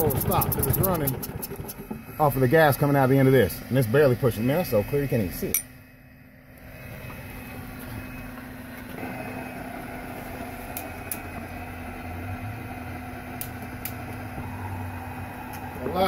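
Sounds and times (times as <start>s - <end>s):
lawnmower engine running: 0.0s - 4.5s, 6.6s - 16.0s.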